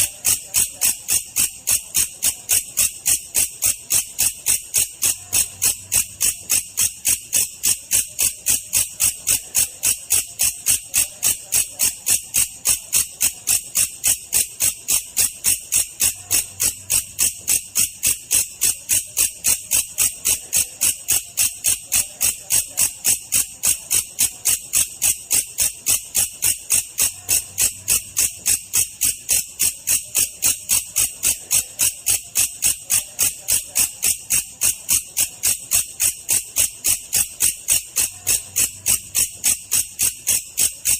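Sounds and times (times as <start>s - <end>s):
insect chirping: 0.0s - 33.2s.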